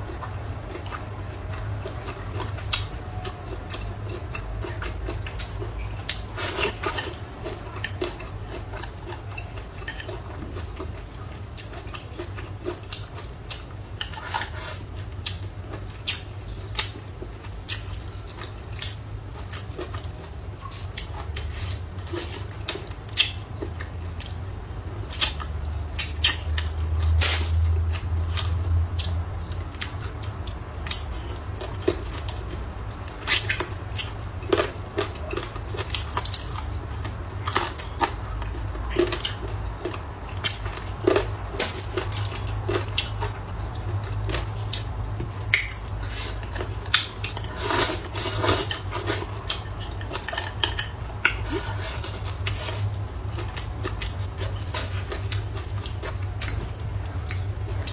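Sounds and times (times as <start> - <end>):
steady low hum: 0.0 - 57.9
person chewing: 0.1 - 57.9.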